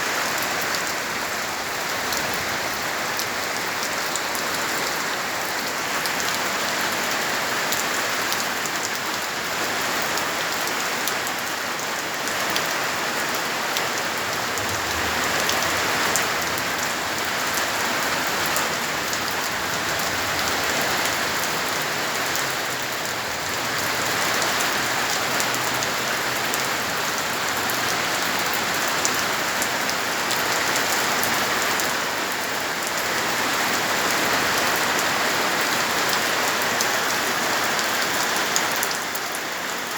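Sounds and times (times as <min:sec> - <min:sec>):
heavy rain pouring: 0:00.0 - 0:39.9
raindrops hitting a surface: 0:00.0 - 0:39.9.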